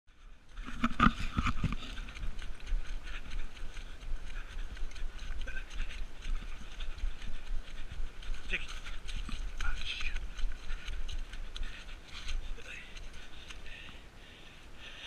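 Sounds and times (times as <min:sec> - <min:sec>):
footsteps on wet grass: 0:00.1 - 0:15.0
steady low rumble: 0:00.2 - 0:15.0.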